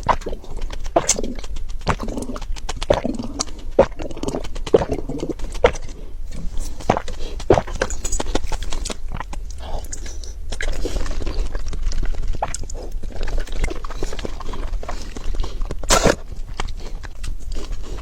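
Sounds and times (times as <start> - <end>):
sweets being crunched and chewed: 0.0 - 18.0.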